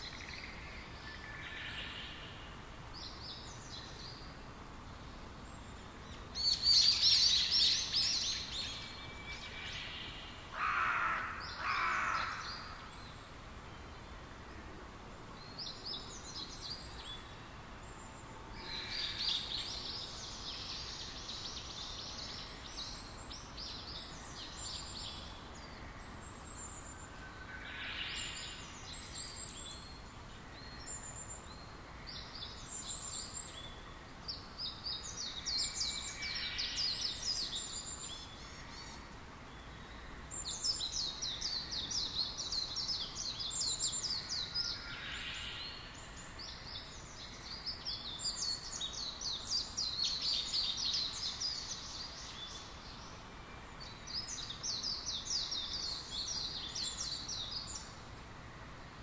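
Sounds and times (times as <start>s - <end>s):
small birds chirping: 0.0s - 14.3s, 15.1s - 58.7s.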